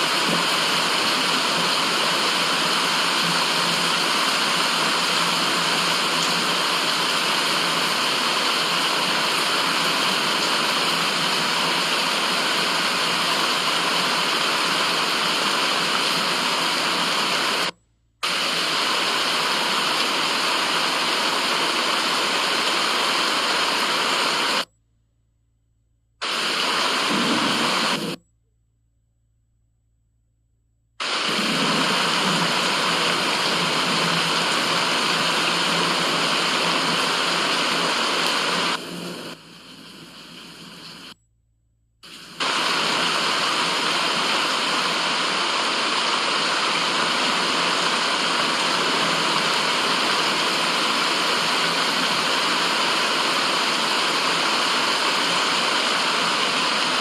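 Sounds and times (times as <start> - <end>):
steady white noise hiss: 0.0 - 24.6, 26.2 - 28.2, 31.0 - 41.2, 42.0 - 57.0.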